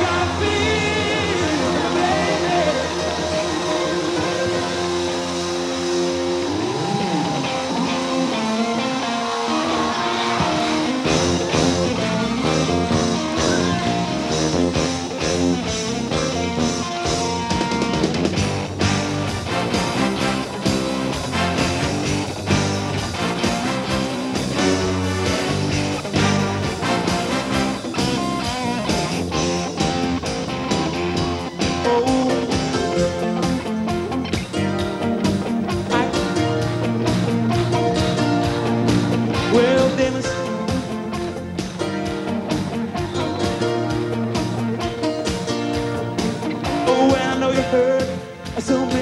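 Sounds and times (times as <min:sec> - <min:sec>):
bass guitar: 0:00.0 - 0:49.0
guitar: 0:00.0 - 0:49.0
rock band playing live: 0:00.0 - 0:49.0
drums beat: 0:06.8 - 0:49.0.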